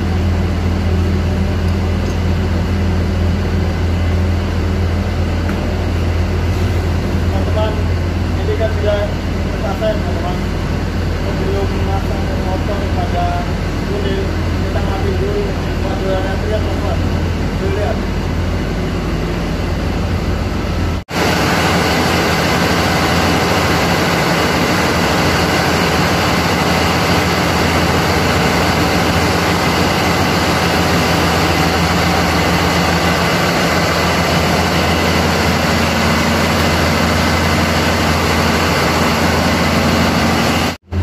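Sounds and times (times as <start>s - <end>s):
heavy machinery running: 0.0s - 41.0s.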